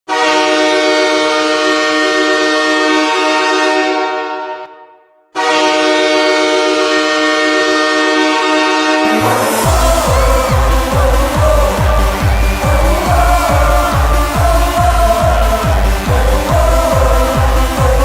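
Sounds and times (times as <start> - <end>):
goal horn blasts: 0.1 - 18.0.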